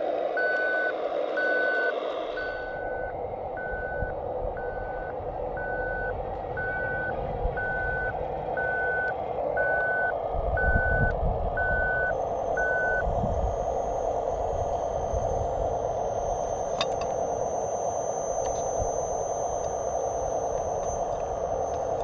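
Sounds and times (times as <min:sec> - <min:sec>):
motor and hydraulics whine: 0:00.0 - 0:22.0
reversing alarm beeping: 0:00.3 - 0:22.0
low rumble: 0:02.1 - 0:22.0.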